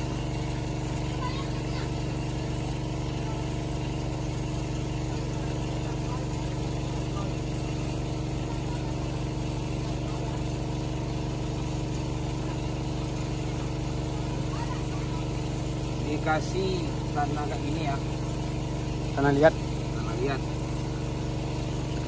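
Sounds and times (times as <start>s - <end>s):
petrol engine driving water pump: 0.0s - 22.0s.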